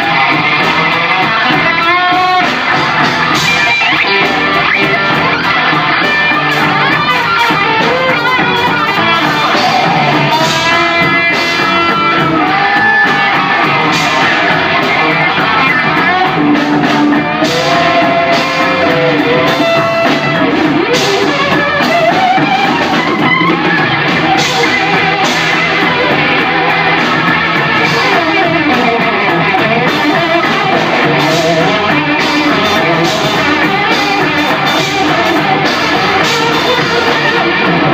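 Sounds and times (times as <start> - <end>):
electric guitar solo: 0.0 - 37.9
rock band playing live: 0.0 - 37.9.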